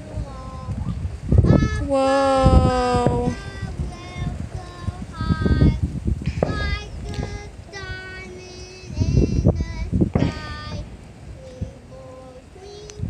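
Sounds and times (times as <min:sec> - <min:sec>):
child singing: 0:00.0 - 0:13.0
low thumps: 0:00.6 - 0:11.9.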